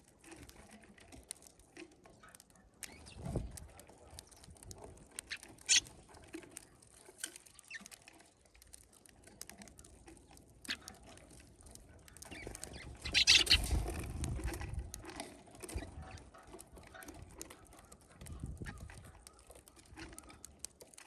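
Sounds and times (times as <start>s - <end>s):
birds pecking and scuffling: 0.0s - 21.0s.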